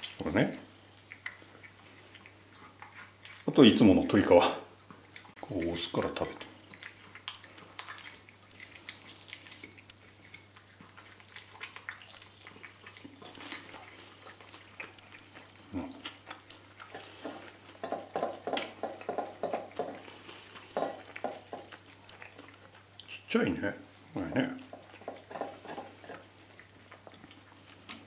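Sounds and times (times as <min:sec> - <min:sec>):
rhythmic chewing: 0:00.0 - 0:28.0.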